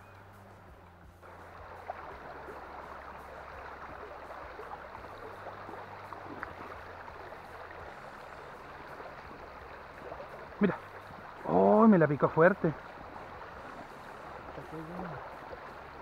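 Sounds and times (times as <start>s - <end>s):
river water rushing: 0.1s - 16.0s.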